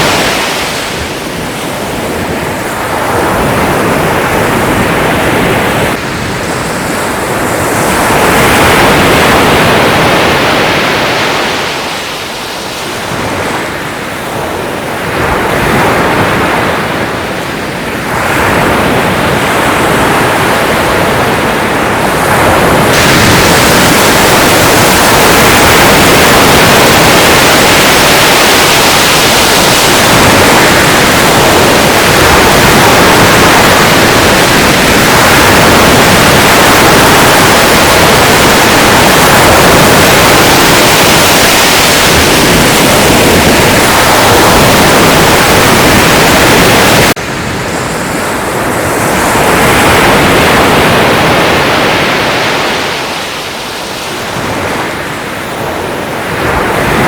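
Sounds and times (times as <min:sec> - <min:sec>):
sea surf rushing: 0:00.0 - 0:57.0.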